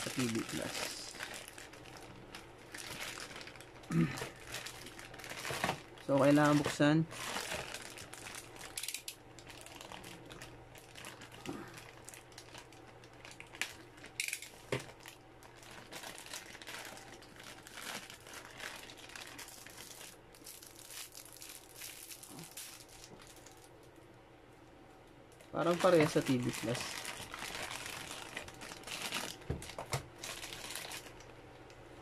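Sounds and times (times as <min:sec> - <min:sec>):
plastic bags crinkling: 0:00.0 - 0:24.0, 0:25.4 - 0:31.4
faint low hum: 0:00.0 - 0:32.0.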